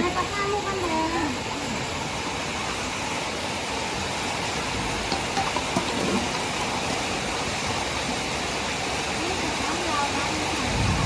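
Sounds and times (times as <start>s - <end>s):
rain pouring: 0.0s - 11.0s.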